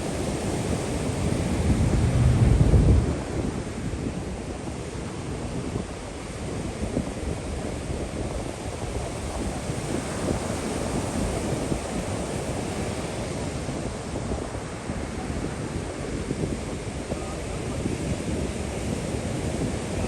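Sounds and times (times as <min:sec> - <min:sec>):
ocean surf washing onto beach: 0:00.0 - 0:20.0
wind buffeting microphone: 0:00.0 - 0:20.0.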